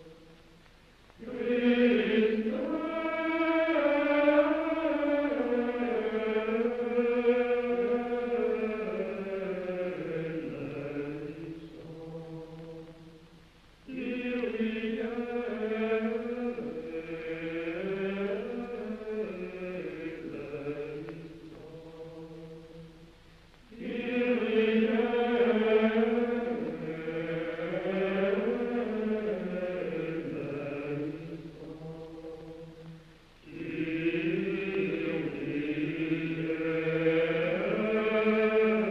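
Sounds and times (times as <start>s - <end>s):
slow vocal chant: 0.0s - 38.9s.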